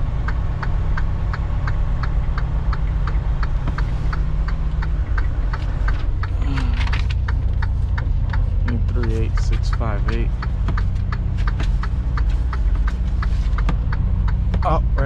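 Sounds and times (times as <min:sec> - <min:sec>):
diesel truck engine running: 0:00.0 - 0:15.0
steady ticking: 0:00.0 - 0:15.0.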